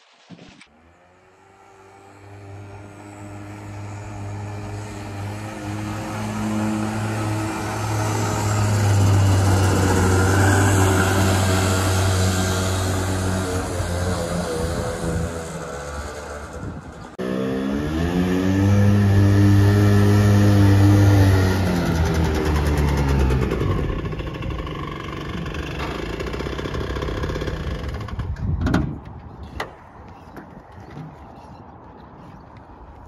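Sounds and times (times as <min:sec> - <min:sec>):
two-stroke engine revving: 0:00.7 - 0:28.2.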